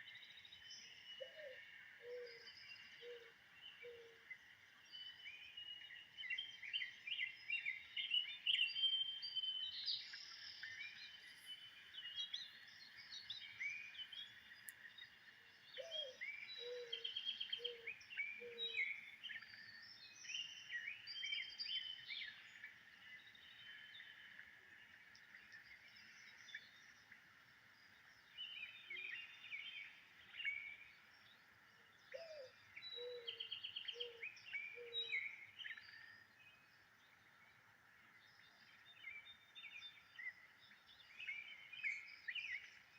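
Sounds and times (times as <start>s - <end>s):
birds chirping and singing: 0.0s - 42.9s
low slow bird call: 0.0s - 42.9s.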